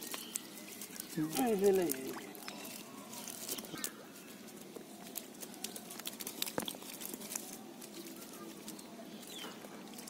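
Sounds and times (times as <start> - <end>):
fish flapping in a wet net: 0.0 - 8.8.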